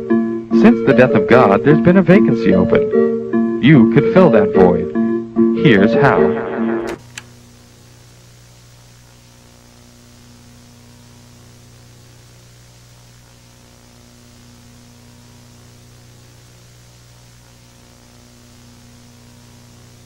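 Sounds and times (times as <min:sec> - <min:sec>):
electrical hum: 0:00.0 - 0:20.0
static hiss: 0:00.0 - 0:20.0.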